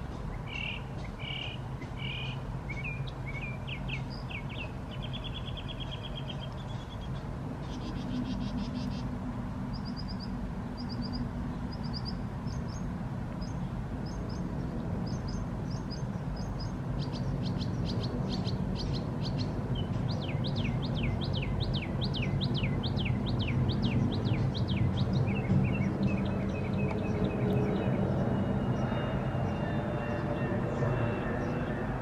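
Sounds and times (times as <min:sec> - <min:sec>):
songbirds chirping: 0:00.0 - 0:32.0
steady low rumble: 0:00.0 - 0:32.0.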